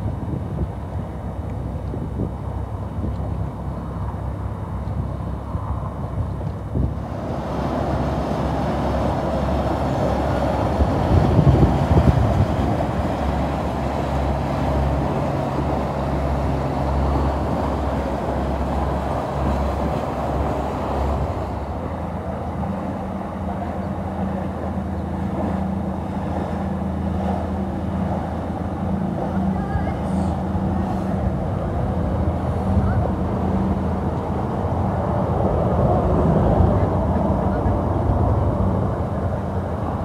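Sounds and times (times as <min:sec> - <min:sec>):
boat engines droning: 0:00.0 - 0:40.0
wind on microphone: 0:00.0 - 0:40.0
water rushing: 0:02.4 - 0:40.0.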